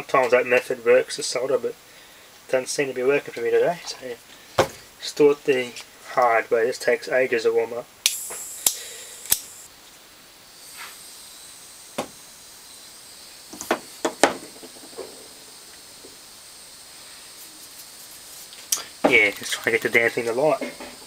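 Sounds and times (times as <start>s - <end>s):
faint gas hiss: 0.0s - 21.0s.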